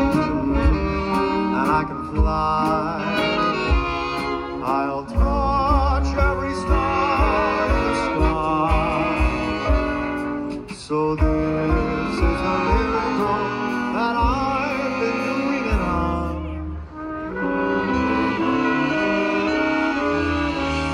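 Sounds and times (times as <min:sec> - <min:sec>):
swing band music: 0:00.0 - 0:20.9.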